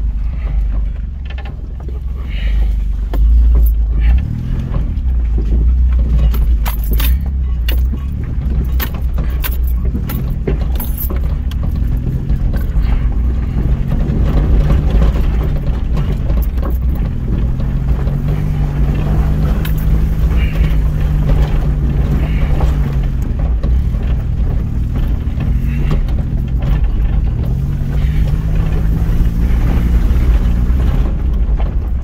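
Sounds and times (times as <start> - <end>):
car engine and road rumble: 0.0 - 32.0
stones clicking and rattling: 3.1 - 32.0.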